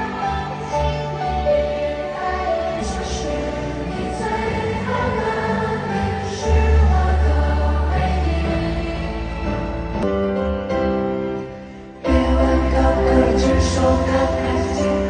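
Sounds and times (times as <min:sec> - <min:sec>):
singing voices: 0:00.0 - 0:10.0, 0:12.0 - 0:15.0
live pop music: 0:00.0 - 0:15.0.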